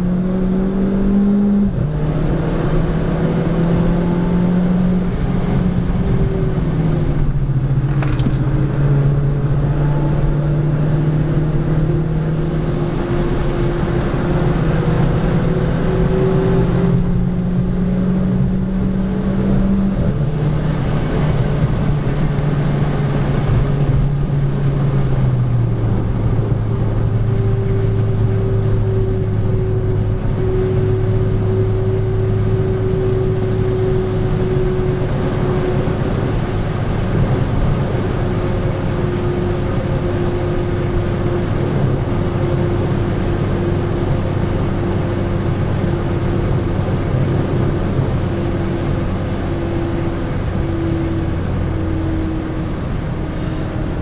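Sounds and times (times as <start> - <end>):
car engine under load: 0.0 - 54.0
wind noise: 0.0 - 54.0.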